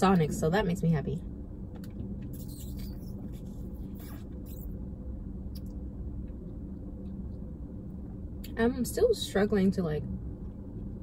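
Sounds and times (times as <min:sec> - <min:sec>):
low hum inside a car: 0:00.0 - 0:11.0.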